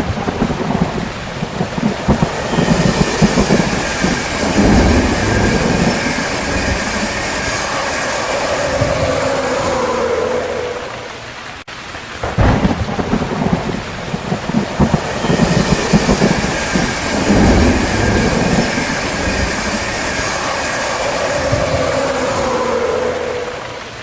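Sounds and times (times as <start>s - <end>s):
rain falling: 0.0s - 24.0s
thunder rumbling: 0.0s - 24.0s.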